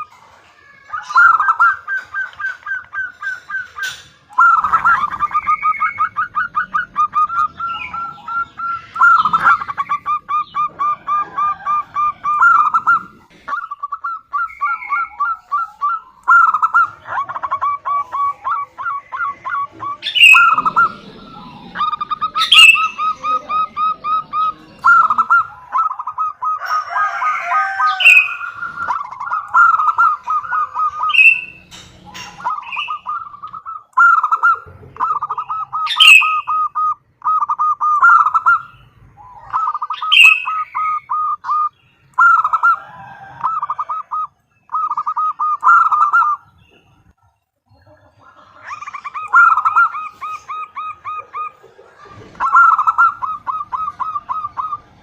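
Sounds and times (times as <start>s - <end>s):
dove cooing: 0.0s - 47.1s, 48.0s - 55.0s.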